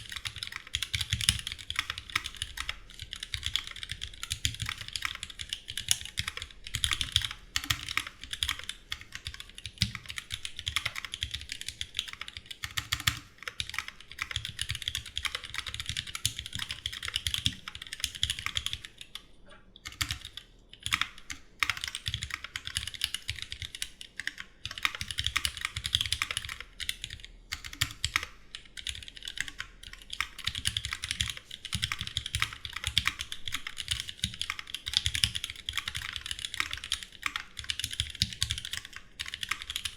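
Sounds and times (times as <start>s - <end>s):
fast typing on mechanical keyboard: 0.0s - 19.2s, 19.9s - 39.9s.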